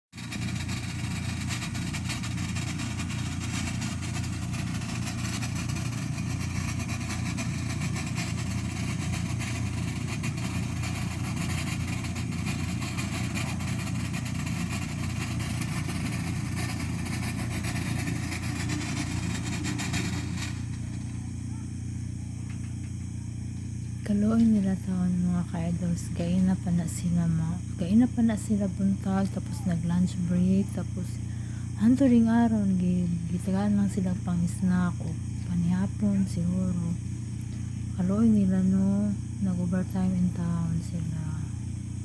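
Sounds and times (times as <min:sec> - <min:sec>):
engine running steadily: 0:00.1 - 0:42.0.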